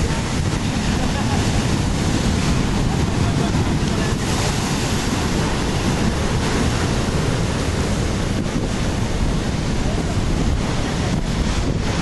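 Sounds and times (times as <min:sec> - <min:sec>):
surf breaking on rocks: 0:00.0 - 0:12.0
wind rumbling on microphone: 0:00.0 - 0:12.0.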